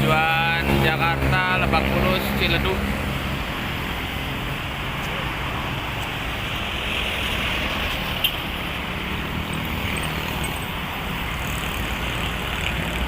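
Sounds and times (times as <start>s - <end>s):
roadside traffic: 0.0s - 13.0s.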